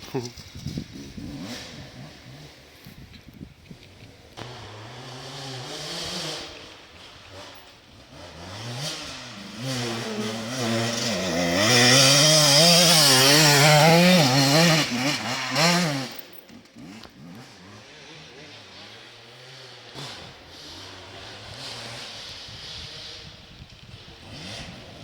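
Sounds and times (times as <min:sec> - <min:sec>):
motorcycle engine revving past: 0:00.5 - 0:03.0, 0:04.4 - 0:25.0.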